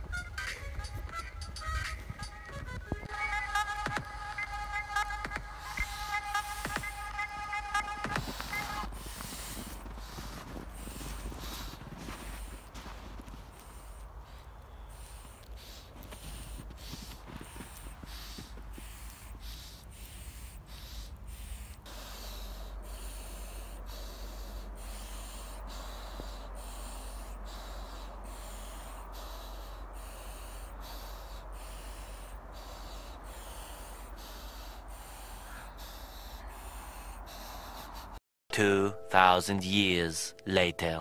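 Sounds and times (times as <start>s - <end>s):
man breathing hard through mask: 1.5s - 38.2s.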